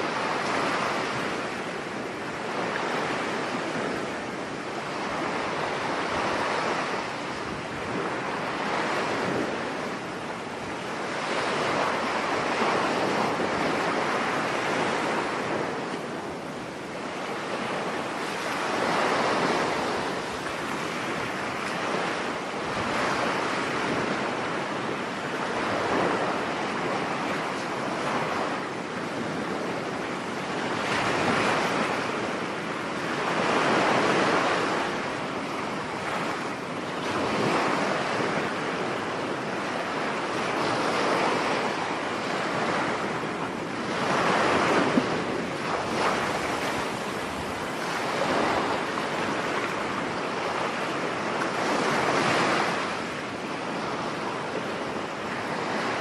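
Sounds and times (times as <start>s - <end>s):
sea surf breaking on beach: 0.0s - 56.0s
wind: 0.0s - 56.0s.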